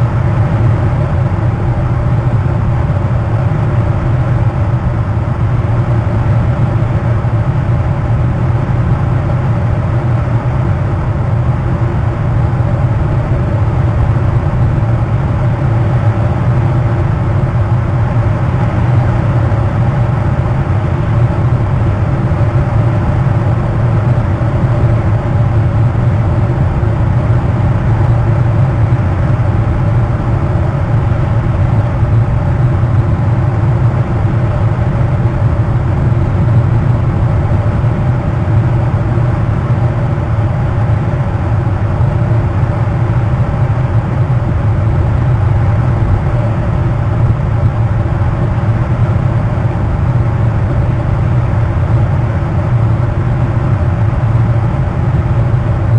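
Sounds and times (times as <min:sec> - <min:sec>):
loud low drone: 0:00.0 - 0:55.9.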